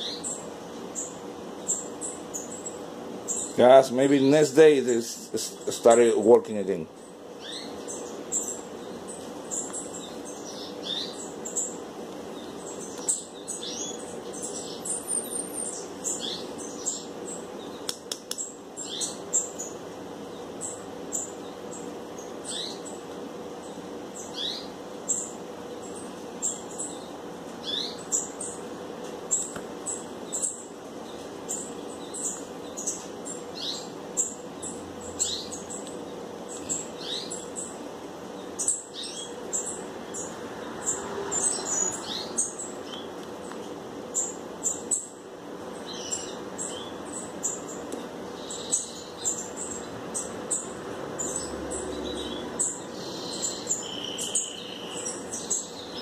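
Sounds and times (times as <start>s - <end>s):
small birds chirping: 0.0s - 56.0s
steady low hum: 0.0s - 56.0s.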